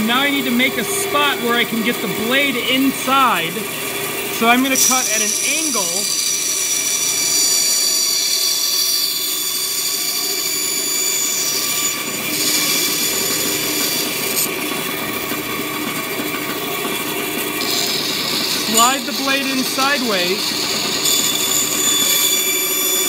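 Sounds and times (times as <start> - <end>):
bandsaw whining: 0.0 - 23.0
saw blade cutting plywood: 0.0 - 23.0.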